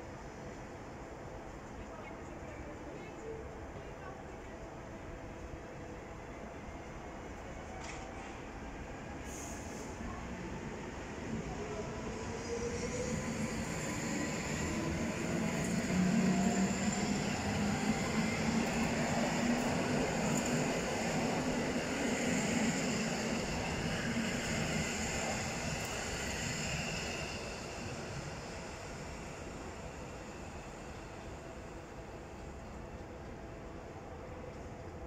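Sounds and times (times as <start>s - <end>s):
electric train passing: 0.0s - 35.0s.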